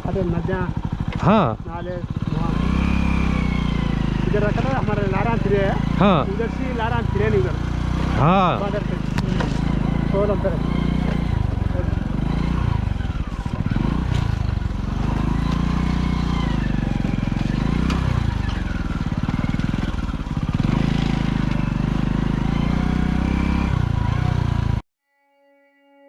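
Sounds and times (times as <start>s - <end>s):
motorcycle engine revving: 0.0s - 24.8s.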